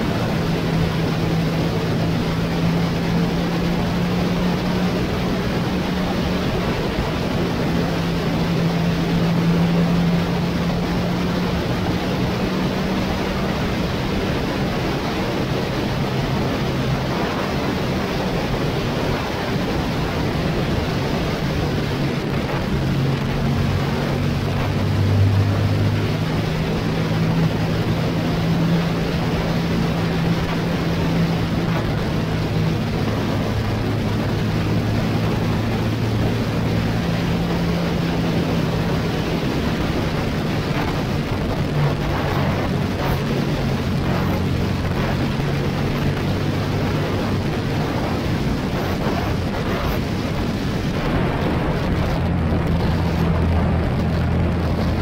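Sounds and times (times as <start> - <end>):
motorcycle engine hum: 0.0 - 55.0
wind rushing on microphone: 0.0 - 55.0.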